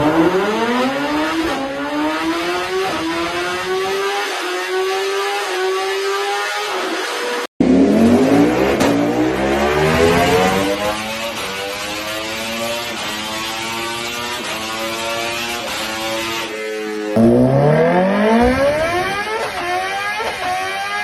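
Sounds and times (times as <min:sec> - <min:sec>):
motorcycle engine accelerating hard: 0:00.0 - 0:21.0.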